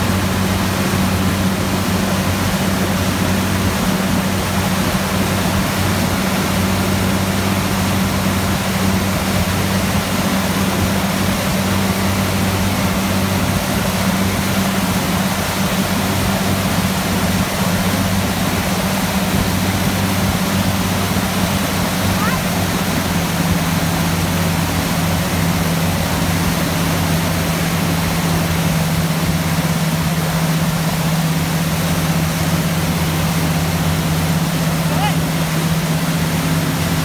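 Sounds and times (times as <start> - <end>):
churning wake water: 0.0 - 37.0
motorboat engine humming: 0.0 - 37.0.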